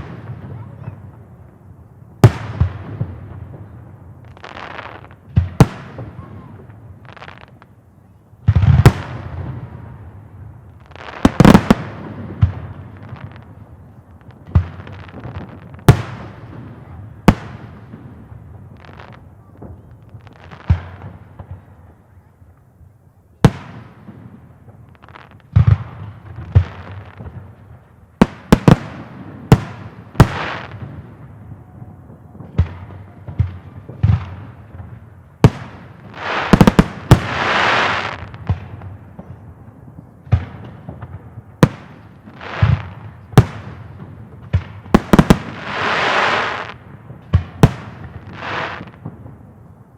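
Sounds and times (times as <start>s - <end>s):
fireworks bursting with sharp bangs: 0.0s - 49.9s.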